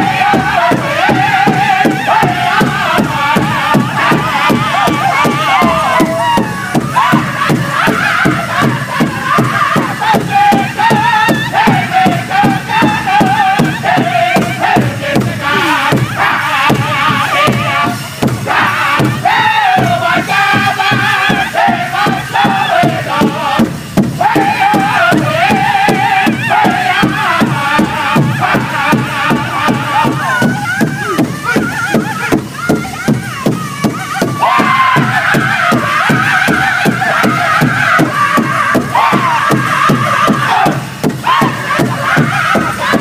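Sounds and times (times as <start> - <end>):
drumsticks beating big drum: 0.0 - 43.0
men singing together: 0.0 - 43.0.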